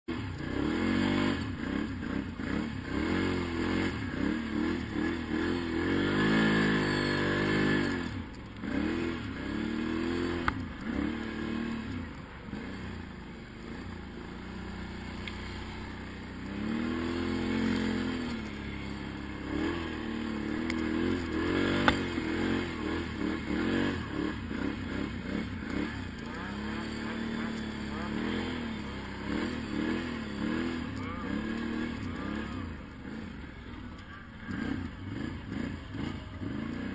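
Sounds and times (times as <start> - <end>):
quad bike engine revving: 0.1 - 36.9.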